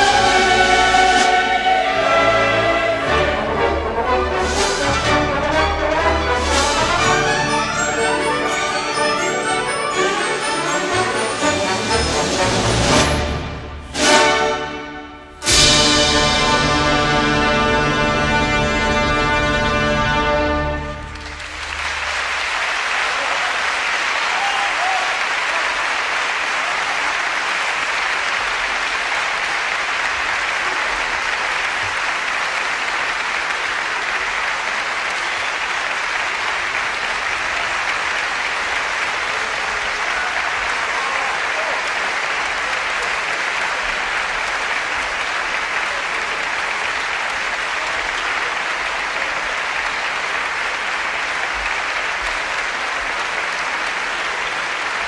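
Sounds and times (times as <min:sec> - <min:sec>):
audience applauding: 0:00.0 - 0:14.9, 0:15.5 - 0:55.0.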